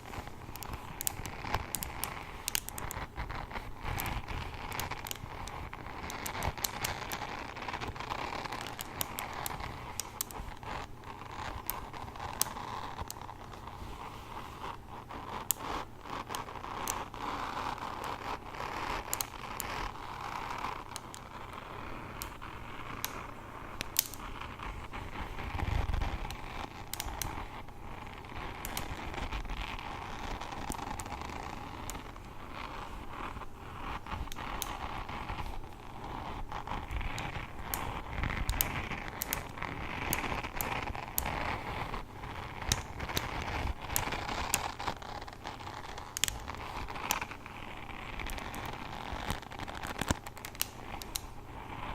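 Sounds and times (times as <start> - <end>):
small sharp clicks: 0.0 - 13.8, 14.6 - 51.9
hairbrush bristles scratching: 0.0 - 51.9.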